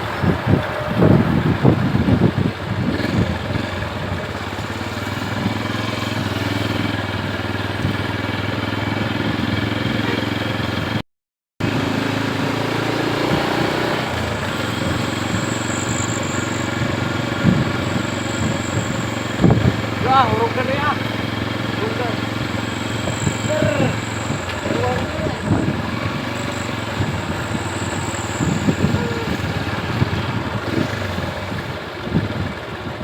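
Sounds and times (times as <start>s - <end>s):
vehicle engines running: 0.0s - 11.0s, 11.6s - 33.0s.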